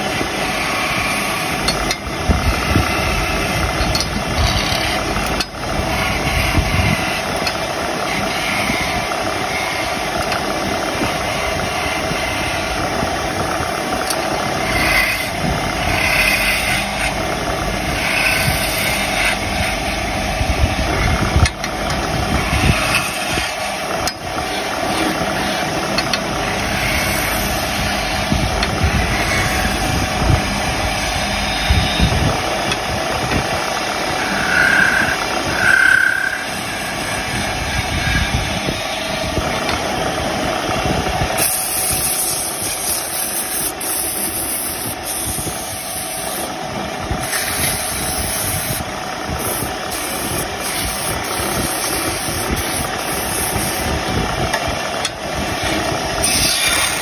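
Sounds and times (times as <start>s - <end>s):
wood lathe motor humming: 0.0s - 57.0s.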